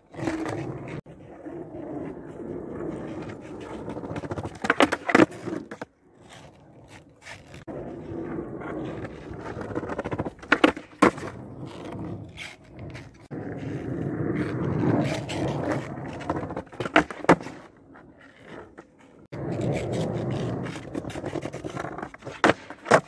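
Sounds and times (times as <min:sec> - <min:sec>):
skateboard wheels rolling on asphalt: 0:00.0 - 0:23.0.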